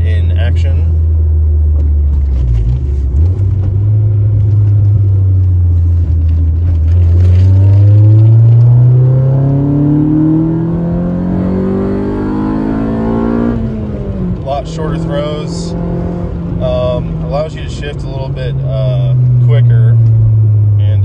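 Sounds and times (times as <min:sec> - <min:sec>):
car engine revving in cabin: 0:00.0 - 0:21.0.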